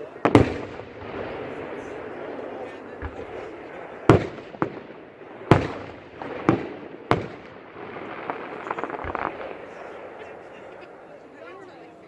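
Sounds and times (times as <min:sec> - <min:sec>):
fireworks bursting: 0:00.0 - 0:11.8.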